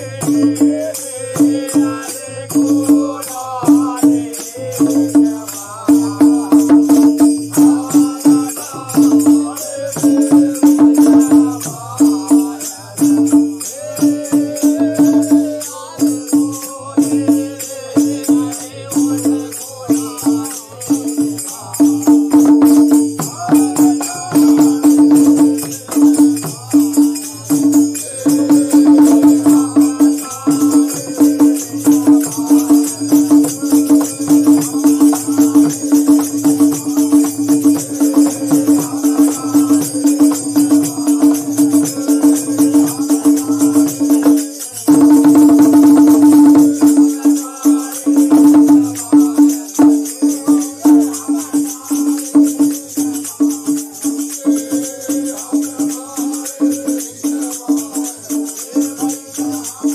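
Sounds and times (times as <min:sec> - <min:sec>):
hand drum: 0:00.0 - 0:59.9
jingling metal percussion: 0:00.0 - 0:59.9
men singing folk song: 0:00.0 - 0:59.9.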